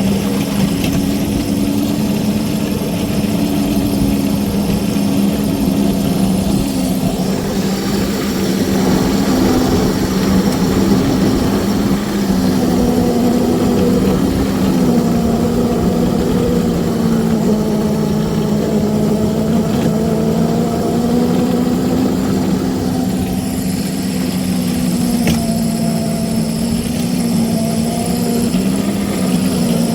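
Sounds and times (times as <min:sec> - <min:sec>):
plowing snow: 0:00.0 - 0:29.9
small locomotive engine running: 0:00.0 - 0:29.9.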